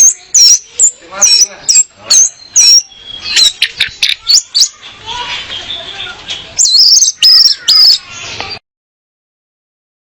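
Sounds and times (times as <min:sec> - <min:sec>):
thrush whistling calls: 0:00.0 - 0:08.6.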